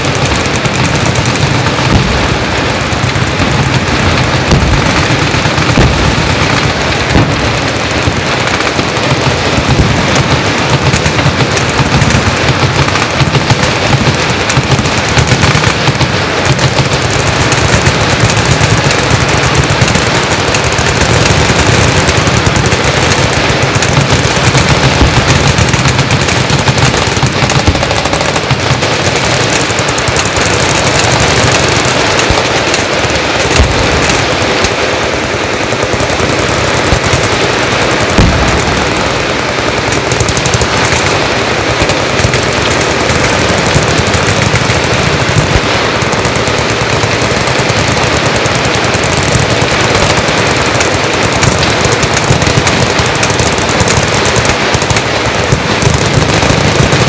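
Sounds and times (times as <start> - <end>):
machine guns firing: 0.0 - 57.0.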